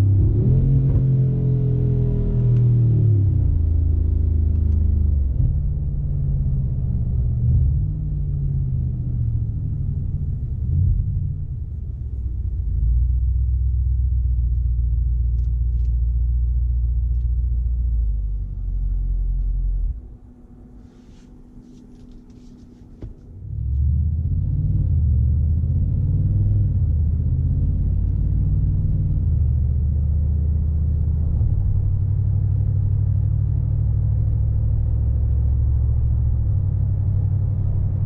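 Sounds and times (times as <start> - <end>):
car engine and exhaust rumble: 0.0 - 38.0.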